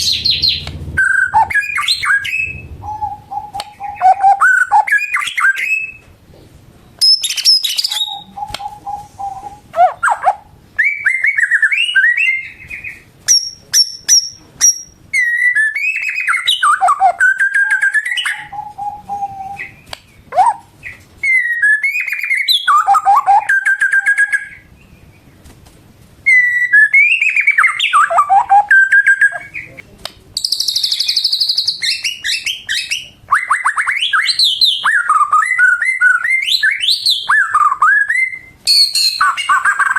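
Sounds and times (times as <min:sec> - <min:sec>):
bird singing whistles and trills: 0:00.0 - 0:06.0, 0:07.0 - 0:25.2, 0:26.3 - 0:29.8, 0:30.4 - 0:39.9.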